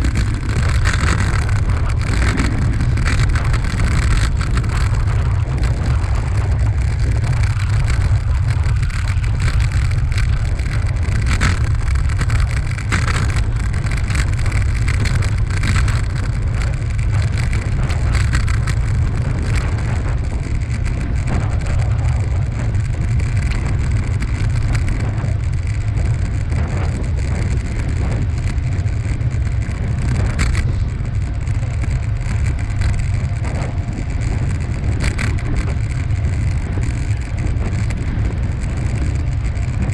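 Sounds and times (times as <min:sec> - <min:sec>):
light clicks and rattles: 0:00.0 - 0:39.9
wind buffeting microphone: 0:00.0 - 0:39.9.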